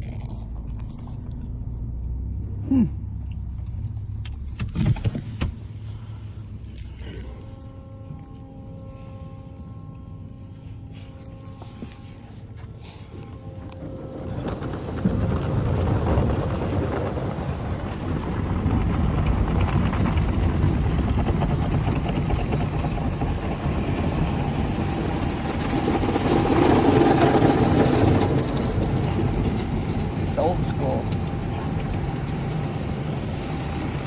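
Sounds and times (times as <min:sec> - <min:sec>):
car wash machinery rumbling: 0:00.0 - 0:34.0.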